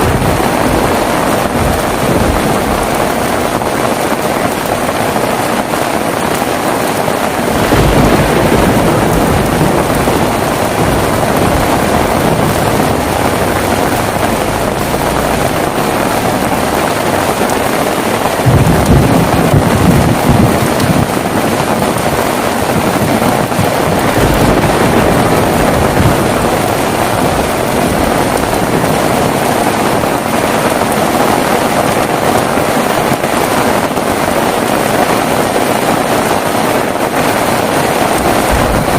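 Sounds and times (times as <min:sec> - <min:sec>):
heavy rain falling: 0:00.0 - 0:38.9
thunder rumbling: 0:00.0 - 0:38.9.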